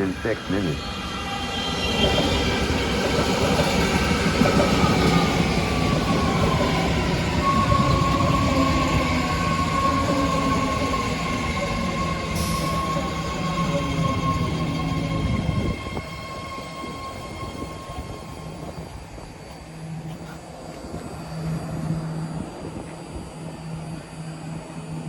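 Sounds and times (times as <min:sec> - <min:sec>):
train propulsion whine: 0:00.0 - 0:25.0.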